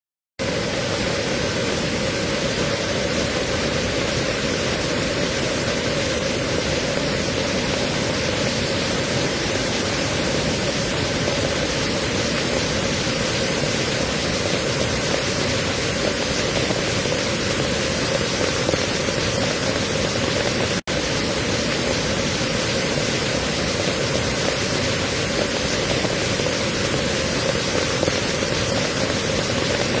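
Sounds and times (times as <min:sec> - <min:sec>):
waterfall rushing: 0:00.4 - 0:30.0.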